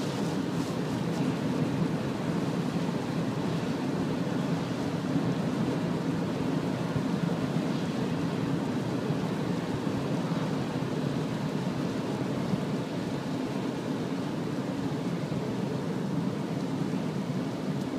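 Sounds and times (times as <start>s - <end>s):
car driving on wet road: 0.0s - 17.9s.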